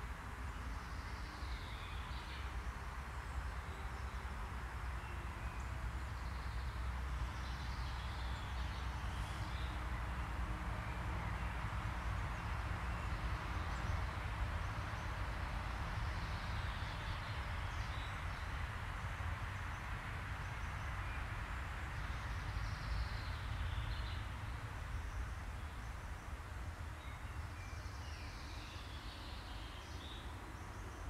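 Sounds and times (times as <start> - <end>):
low rumble and hiss: 0.0 - 31.0.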